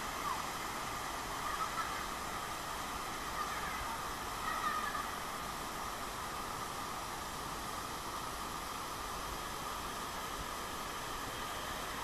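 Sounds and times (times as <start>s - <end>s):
waterfall rushing into a pool: 0.0s - 12.0s.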